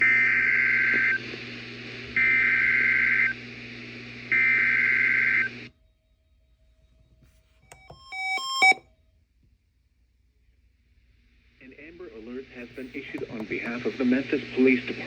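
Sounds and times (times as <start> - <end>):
low hum and hiss: 0.1 - 15.0.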